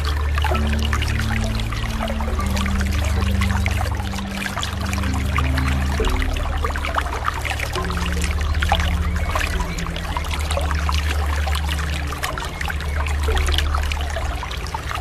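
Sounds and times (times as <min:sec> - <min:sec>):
sea water lapping: 0:00.0 - 0:15.0
slow background music: 0:00.0 - 0:15.0.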